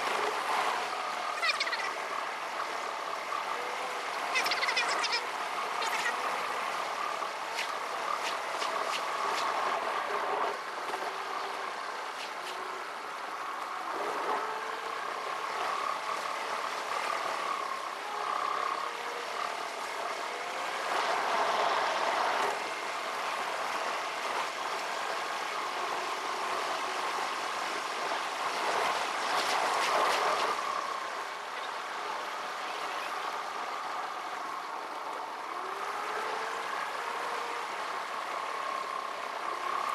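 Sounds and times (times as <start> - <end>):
rushing road noise: 0.0 - 39.9.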